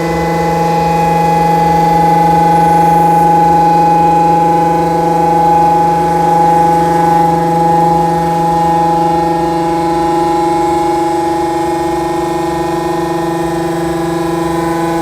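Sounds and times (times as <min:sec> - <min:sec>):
milling machine whine: 0:00.0 - 0:15.0.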